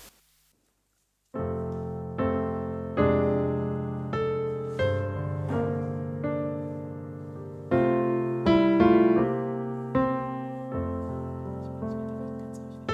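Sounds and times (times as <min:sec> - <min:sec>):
slow piano chords: 0:01.4 - 0:12.9.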